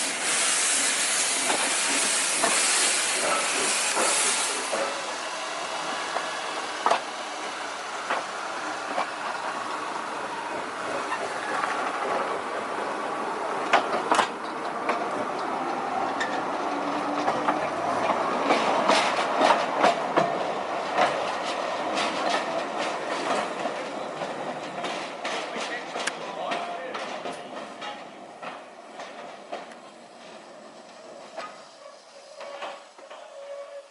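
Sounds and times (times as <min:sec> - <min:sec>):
train rumbling: 0:00.0 - 0:33.9
wheels clicking over rail joints: 0:05.8 - 0:33.9.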